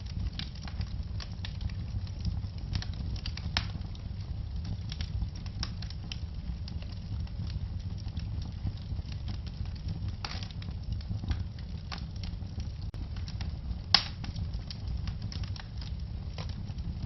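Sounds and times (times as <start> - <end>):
low rumble of burning: 0.0 - 17.0
wood fire popping and snapping: 0.0 - 17.0.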